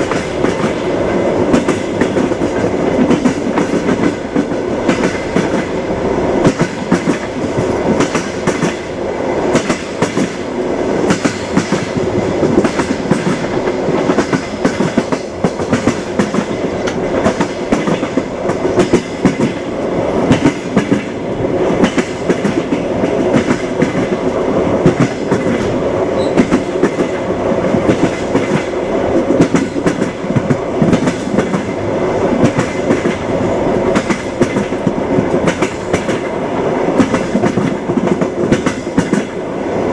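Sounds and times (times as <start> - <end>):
train carriage rumble: 0.0 - 39.9
train wheels clickety-clack: 0.0 - 39.9.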